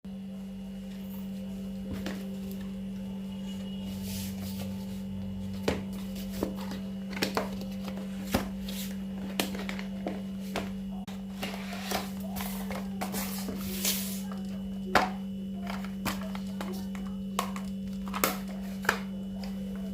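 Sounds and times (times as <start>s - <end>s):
low fan hum: 0.1s - 19.9s.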